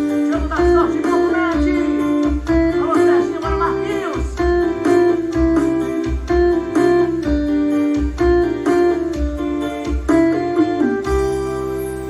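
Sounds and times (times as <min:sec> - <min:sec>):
heavy bass beat: 0:00.0 - 0:11.4
electronic keyboard melody: 0:00.0 - 0:12.0.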